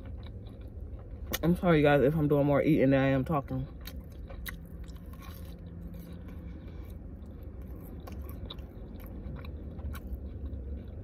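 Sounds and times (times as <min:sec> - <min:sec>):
low steady hum: 0:00.0 - 0:11.0
person chewing fries: 0:00.0 - 0:11.0.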